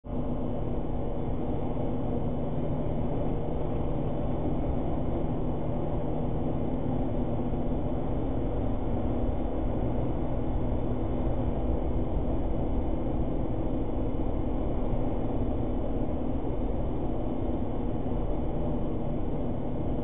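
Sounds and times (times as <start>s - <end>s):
engine and road noise in cab: 0.0s - 20.0s.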